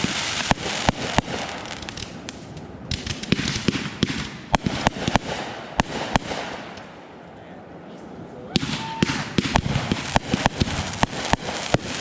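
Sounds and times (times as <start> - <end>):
fireworks bangs: 0.0 - 7.0, 8.5 - 12.0
crackling hiss: 0.0 - 12.0.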